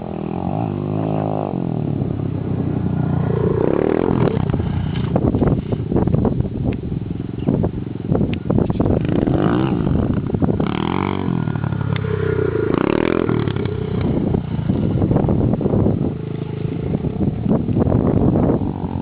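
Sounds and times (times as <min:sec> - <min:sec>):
engine revving: 0:00.0 - 0:05.6, 0:08.8 - 0:19.0.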